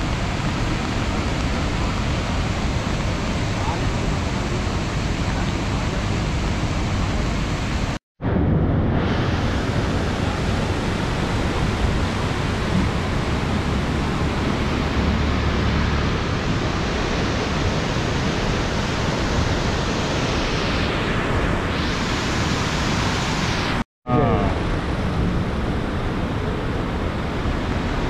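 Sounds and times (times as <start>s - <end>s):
floodwater rushing: 0.0s - 8.0s, 8.9s - 28.0s.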